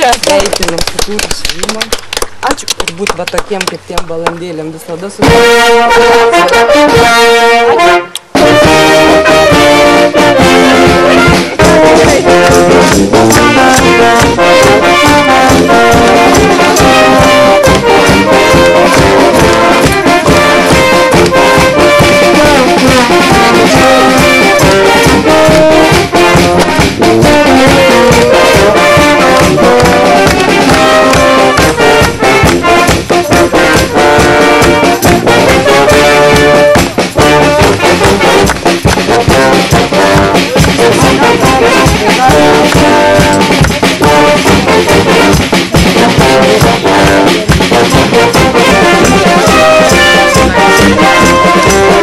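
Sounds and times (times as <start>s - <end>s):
brass band music: 0.0s - 52.0s.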